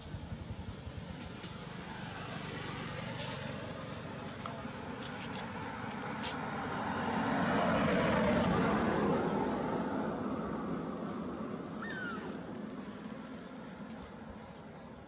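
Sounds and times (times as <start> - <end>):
motor vehicle passing: 0.3 - 14.6.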